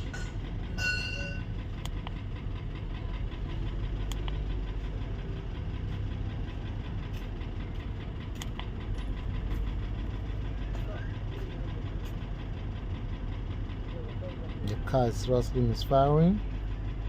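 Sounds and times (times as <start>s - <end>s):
engine idling while misfiring: 0.0s - 17.0s.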